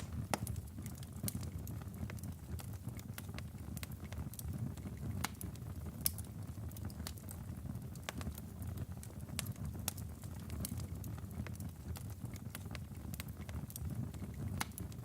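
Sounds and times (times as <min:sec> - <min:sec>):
logs crackling in fireplace: 0:00.0 - 0:15.0
low rumble of flames: 0:00.0 - 0:15.0.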